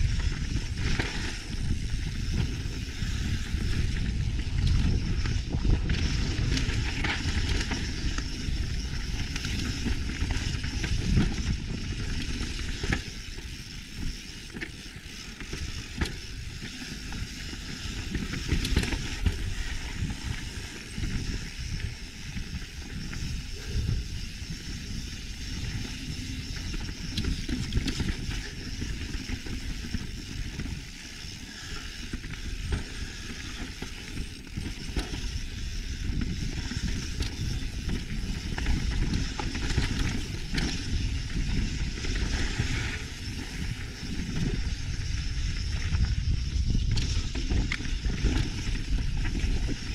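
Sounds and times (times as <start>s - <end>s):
bike clicks and rattles: 0.0s - 49.9s
wind rumble on microphone: 0.0s - 49.9s.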